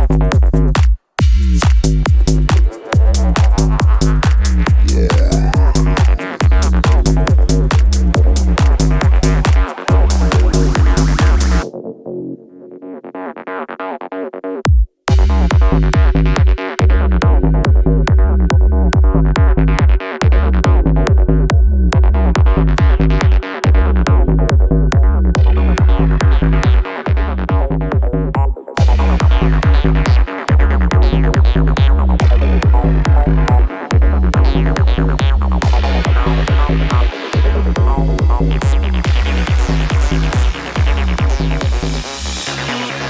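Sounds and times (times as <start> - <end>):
electronic trance music: 0.0 - 14.0, 15.1 - 43.0.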